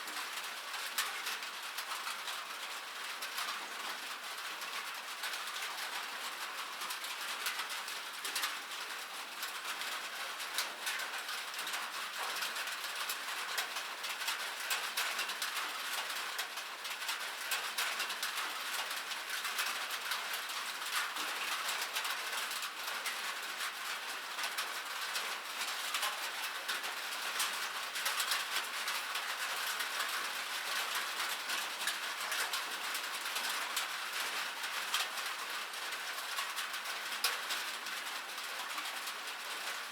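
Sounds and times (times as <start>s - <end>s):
rain on metal: 0.0s - 39.9s.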